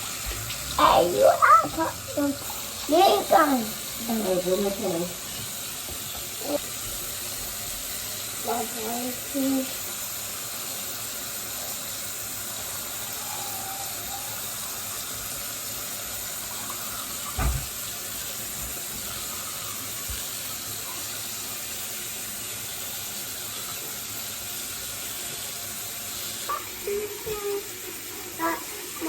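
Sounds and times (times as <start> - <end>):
sink tap running: 0.0 - 29.0.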